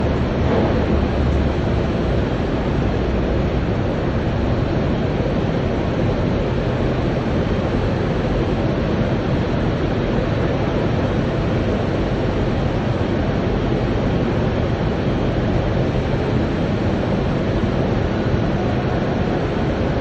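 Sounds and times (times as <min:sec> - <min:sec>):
loud industrial noise: 0:00.0 - 0:20.0.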